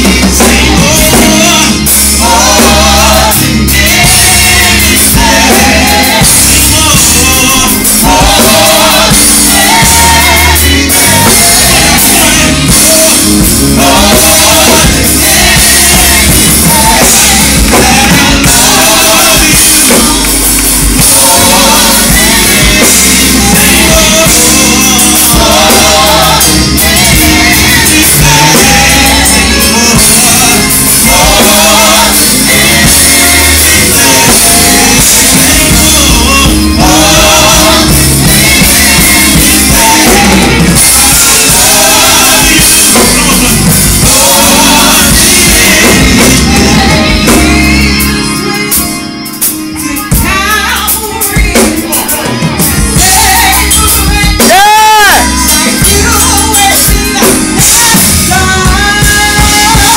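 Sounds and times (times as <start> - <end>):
drum kit and band: 0.0 - 59.9
gospel group singing: 0.0 - 59.9.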